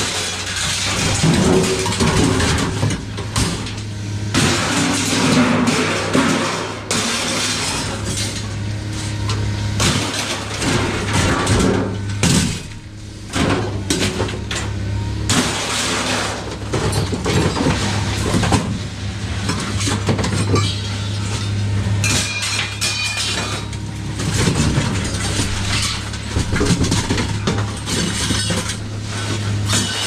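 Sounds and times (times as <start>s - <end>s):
metal clanking and clattering: 0.0s - 18.8s, 19.4s - 30.0s.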